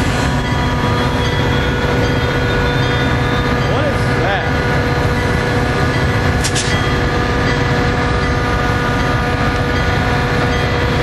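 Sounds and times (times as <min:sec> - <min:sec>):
train hum of several tones: 0:00.0 - 0:11.0
train rumbling slowly: 0:00.0 - 0:11.0.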